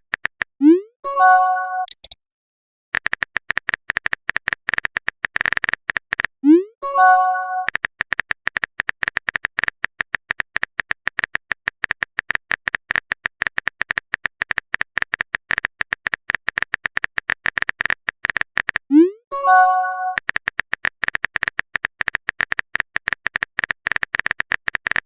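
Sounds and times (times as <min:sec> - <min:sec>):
phone keyboard typing clicks: 0:00.0 - 0:00.5, 0:01.8 - 0:02.2, 0:03.0 - 0:06.3, 0:07.1 - 0:18.9, 0:19.5 - 0:25.0.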